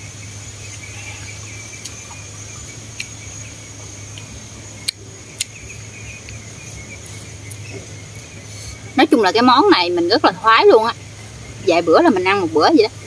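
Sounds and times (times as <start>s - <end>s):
insects trilling: 0.0s - 13.0s
low steady hum: 0.0s - 13.0s.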